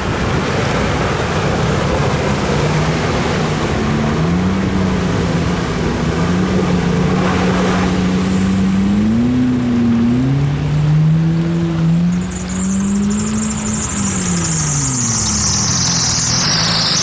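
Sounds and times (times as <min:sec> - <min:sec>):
steady rushing noise: 0:00.0 - 0:17.0
engine revving: 0:00.4 - 0:17.0.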